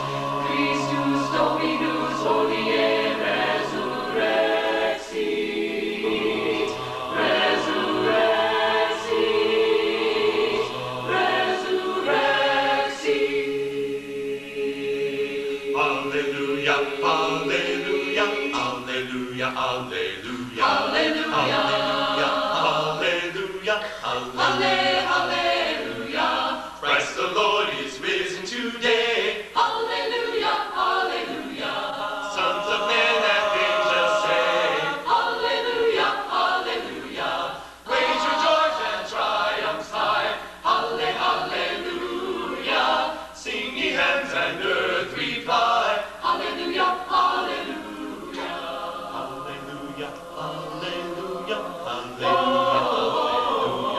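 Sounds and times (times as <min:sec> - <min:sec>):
choir singing a cappella: 0:00.0 - 0:53.9.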